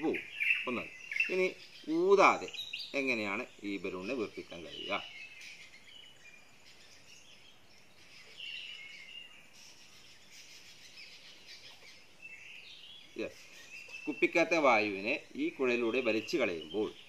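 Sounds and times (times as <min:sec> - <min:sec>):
birds chirping: 0:00.0 - 0:17.0
faint outdoor background noise: 0:00.0 - 0:17.0.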